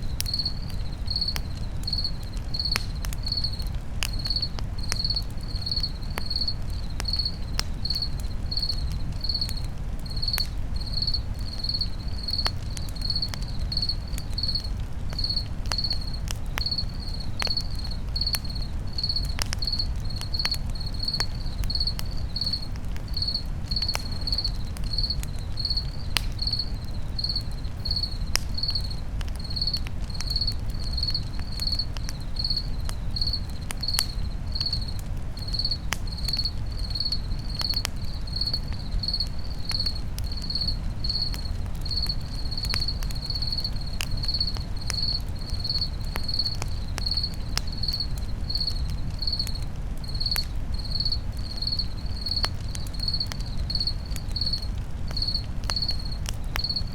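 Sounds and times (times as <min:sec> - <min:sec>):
campfire crackling and popping: 0:00.0 - 0:56.9
cricket chirping: 0:00.0 - 0:56.9.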